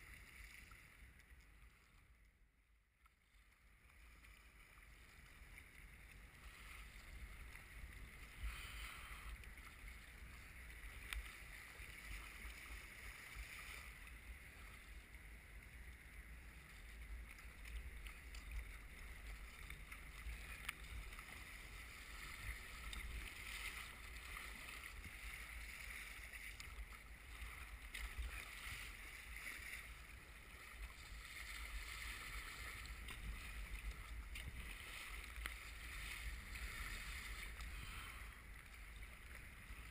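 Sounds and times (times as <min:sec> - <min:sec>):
water splashing along kayak hull: 0:00.0 - 0:39.9.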